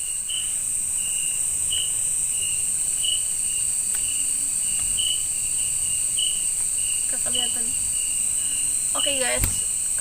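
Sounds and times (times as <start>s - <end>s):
crickets and night insects chirping: 0.0s - 10.0s.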